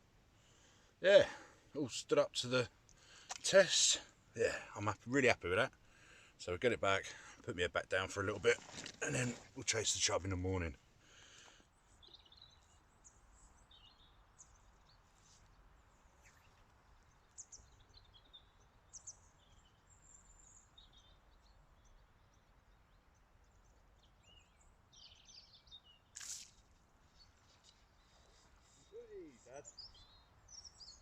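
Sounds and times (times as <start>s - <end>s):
faint birdsong chirps: 0.0s - 31.0s.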